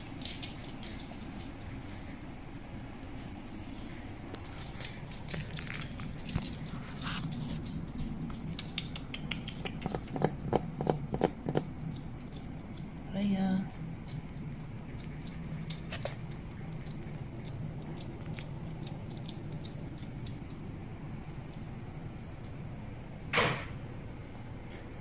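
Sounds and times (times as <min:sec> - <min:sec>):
puppy claws clicking on wooden floor: 0:00.0 - 0:02.2, 0:04.2 - 0:22.6
steady low hum: 0:00.0 - 0:25.0.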